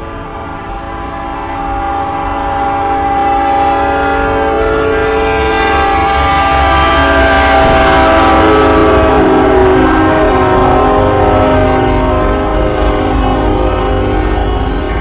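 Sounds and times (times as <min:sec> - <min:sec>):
train horn blast: 0:00.0 - 0:15.0
train rumble: 0:00.0 - 0:15.0.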